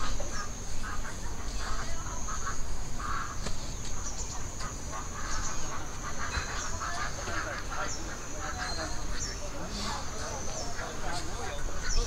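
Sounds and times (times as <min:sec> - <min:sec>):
bird calls: 0:00.0 - 0:12.0.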